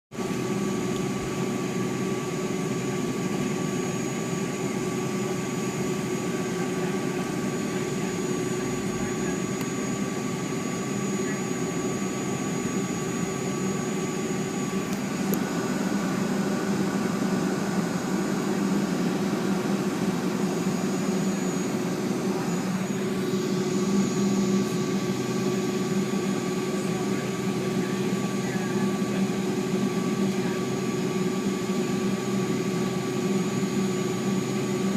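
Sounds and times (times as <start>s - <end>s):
steady whining tones: 0.4s - 31.5s.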